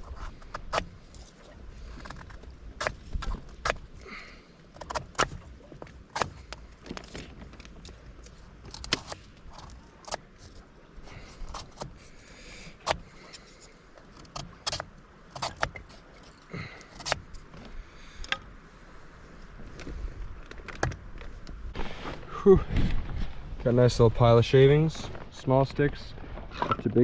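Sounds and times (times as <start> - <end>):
wood cracking and scraping: 0.0 - 17.8, 19.7 - 23.7.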